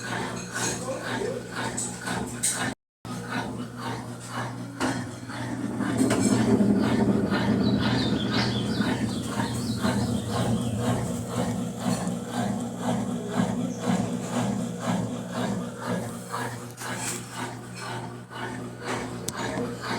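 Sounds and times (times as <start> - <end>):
washing machine spinning hum: 0.0 - 19.9
rhythmic rubbing knock: 3.7 - 19.9.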